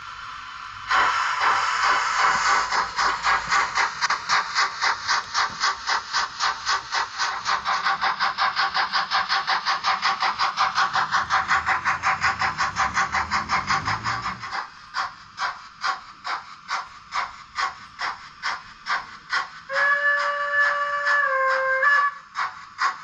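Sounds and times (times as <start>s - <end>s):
model steam locomotive chuffing: 0.0s - 23.0s.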